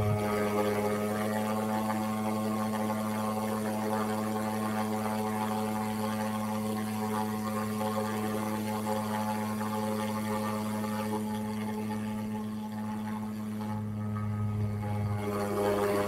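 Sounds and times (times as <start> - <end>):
steady droning hum: 0.0 - 16.0.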